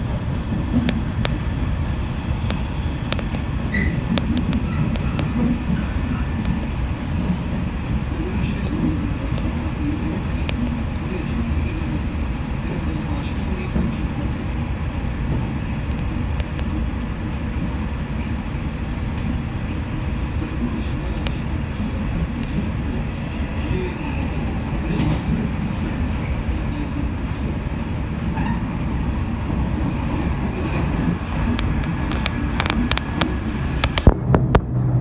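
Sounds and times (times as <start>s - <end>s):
train wheels and motors rumbling: 0.0s - 35.0s.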